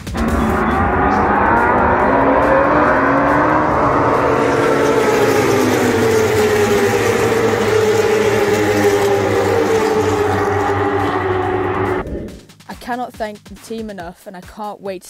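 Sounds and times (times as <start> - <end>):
racing motorcycles passing at speed: 0.0 - 12.4.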